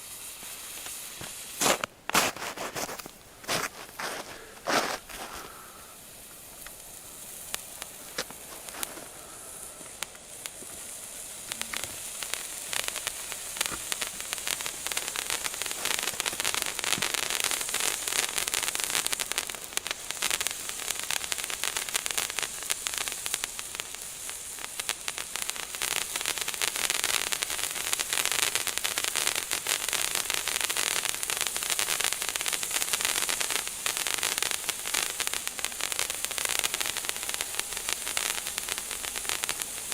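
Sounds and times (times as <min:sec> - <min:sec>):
fountain firework hissing and crackling: 0:00.0 - 0:39.9.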